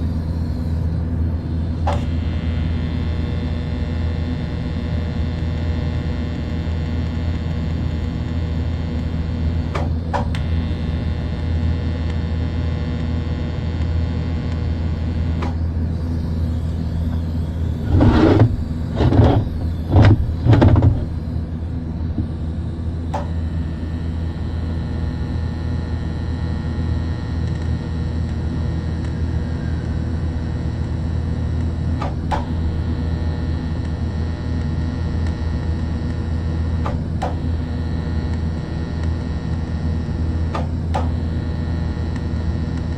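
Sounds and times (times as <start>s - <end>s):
electrical machine hum: 0.0s - 42.9s.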